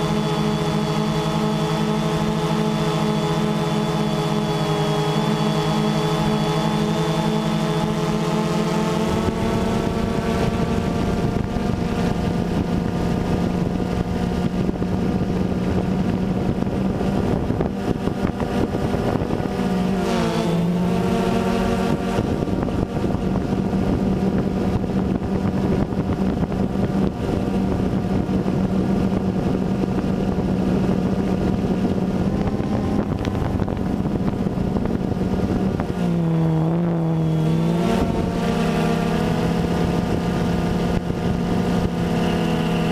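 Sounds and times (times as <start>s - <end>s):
drone propellers buzzing: 0.0s - 42.9s
wind noise: 0.0s - 42.9s.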